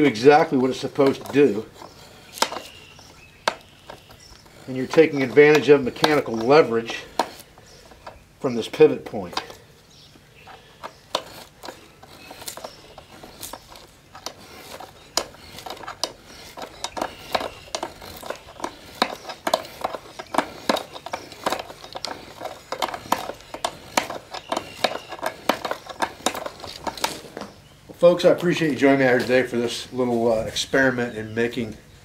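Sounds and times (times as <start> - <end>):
knife paring wood: 0.0 - 27.6.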